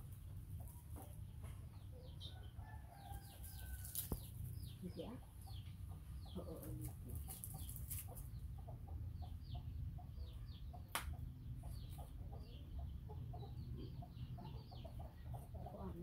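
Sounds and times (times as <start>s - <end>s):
chickens clucking: 0.2s - 16.0s.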